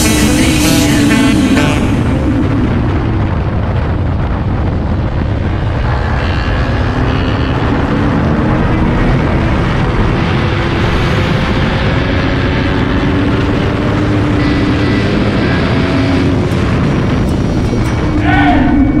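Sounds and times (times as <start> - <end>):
motorcycle engine revving: 0.0 - 18.2
wind rushing: 0.0 - 19.0.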